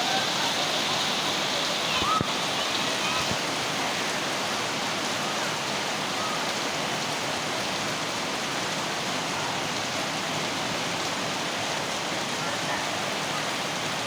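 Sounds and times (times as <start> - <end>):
heavy rain on ground: 0.0 - 14.0.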